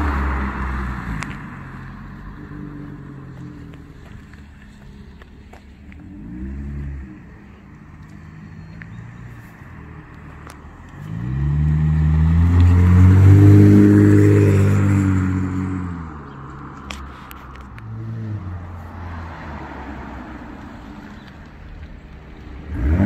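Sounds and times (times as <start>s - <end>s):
car exhaust passing by: 0.0s - 23.0s.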